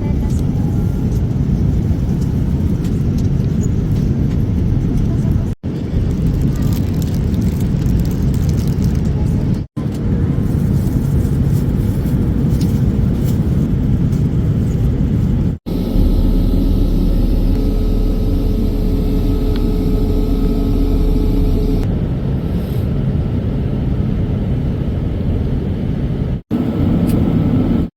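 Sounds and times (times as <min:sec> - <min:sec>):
airliner engine rumble in cabin: 0:00.0 - 0:27.9.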